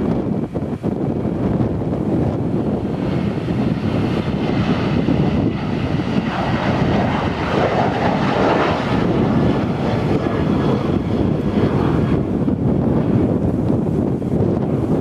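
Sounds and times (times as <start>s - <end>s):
jet roar at takeoff: 0.0s - 15.0s.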